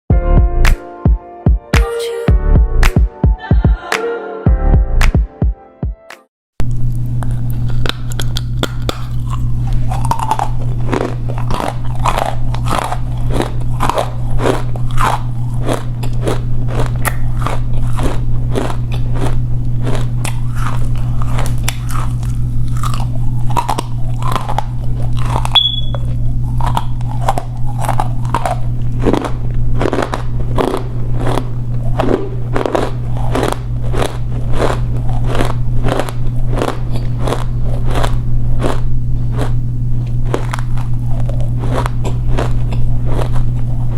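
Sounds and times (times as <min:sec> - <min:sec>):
low hum: 0:06.6 - 0:43.9
clay crunching being chewed: 0:06.8 - 0:43.9.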